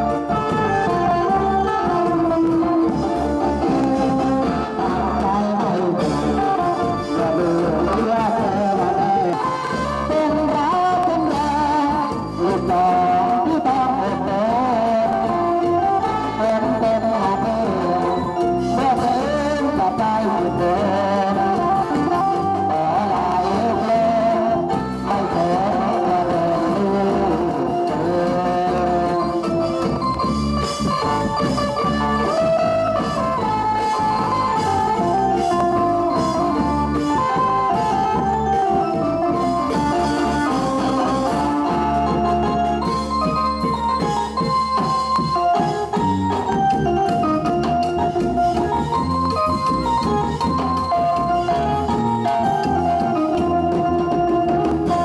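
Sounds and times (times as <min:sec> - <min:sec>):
drum kit beat: 0:00.0 - 0:55.0
electronic keyboard melody: 0:00.0 - 0:55.0
live band music over loudspeakers: 0:00.0 - 0:55.0.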